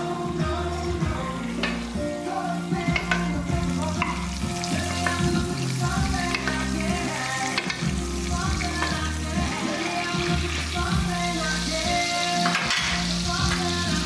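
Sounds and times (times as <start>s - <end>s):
background music with bass line: 0.0s - 14.0s
steak sizzling in a pan: 0.0s - 14.0s.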